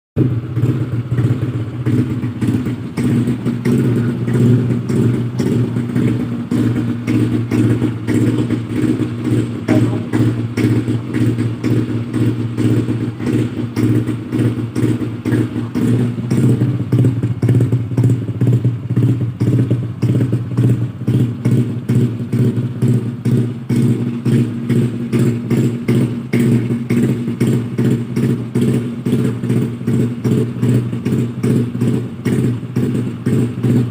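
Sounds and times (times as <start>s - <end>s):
scooter engine idling: 0.2s - 33.9s.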